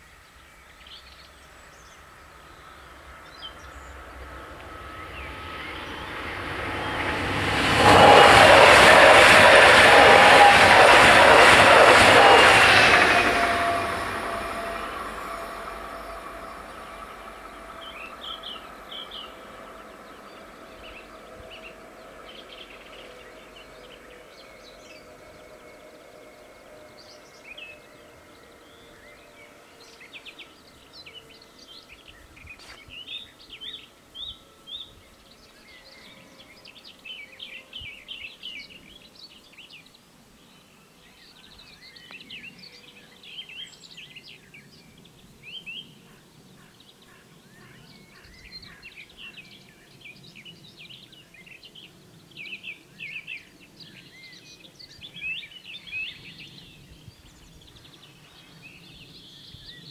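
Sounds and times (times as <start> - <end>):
low countryside hum: 0.0 - 59.9.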